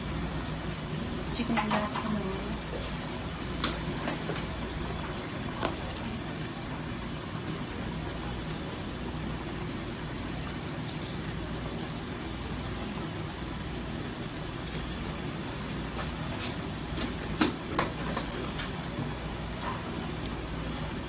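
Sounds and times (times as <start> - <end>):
gas burners roaring: 0.0 - 21.0.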